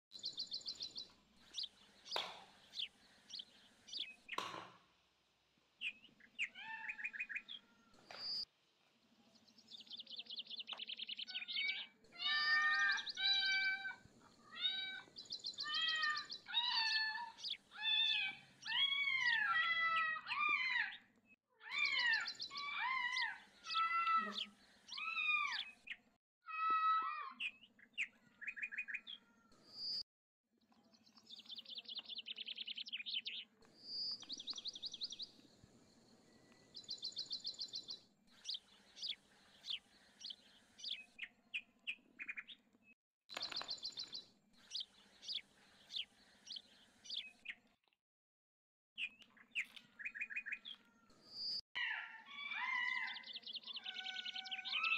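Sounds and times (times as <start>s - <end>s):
small birds chirping: 0.1s - 4.8s, 5.6s - 30.0s, 30.6s - 48.0s, 49.0s - 54.9s.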